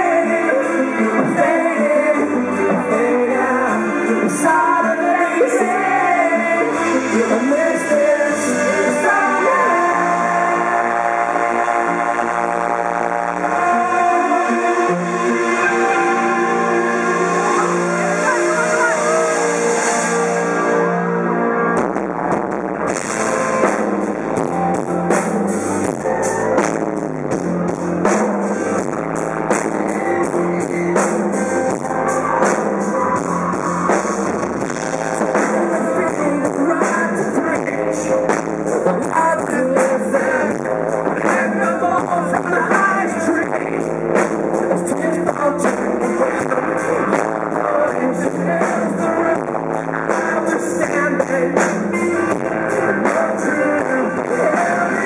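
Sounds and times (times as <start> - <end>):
person singing: 0.0 - 21.4, 24.3 - 55.0
bass guitar: 0.0 - 55.0
electric guitars: 0.0 - 55.0.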